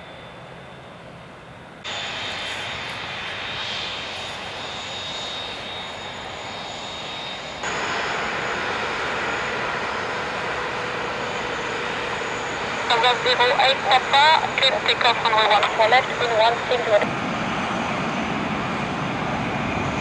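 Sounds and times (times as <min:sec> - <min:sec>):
jet engines with high whine: 0:00.0 - 0:20.0.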